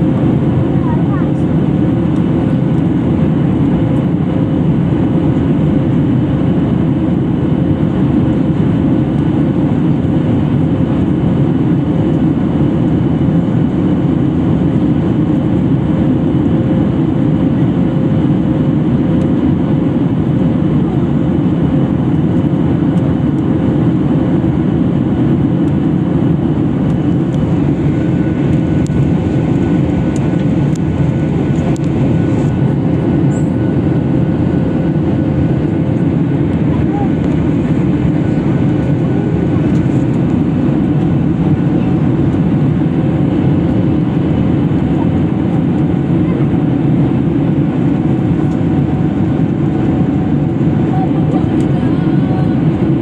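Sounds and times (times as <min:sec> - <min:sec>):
aircraft cabin noise: 0:00.0 - 0:53.0.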